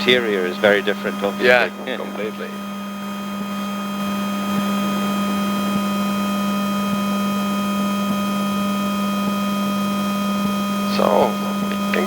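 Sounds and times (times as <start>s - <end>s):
electric car hum: 0.0s - 12.0s.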